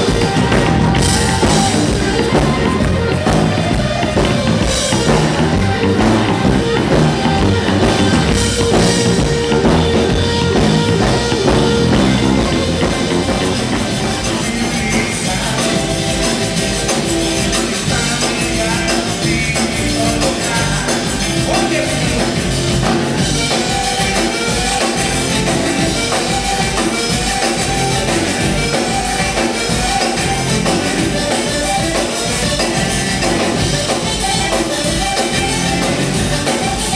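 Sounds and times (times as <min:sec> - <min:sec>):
drum kit: 0:00.0 - 0:36.9
live blues band playing: 0:00.0 - 0:36.9.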